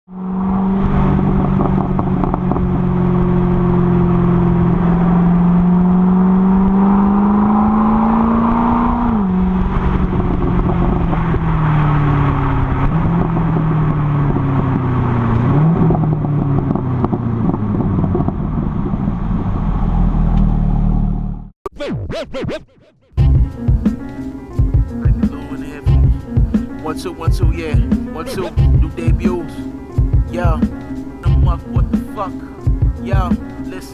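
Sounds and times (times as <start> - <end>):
car engine and exhaust revving: 0.1 - 21.6, 23.2 - 33.6.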